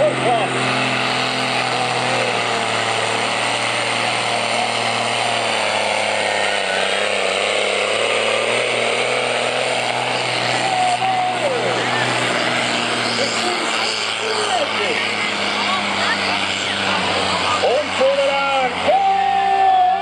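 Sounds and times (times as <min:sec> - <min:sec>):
tractor engine running under load: 0:00.0 - 0:20.0.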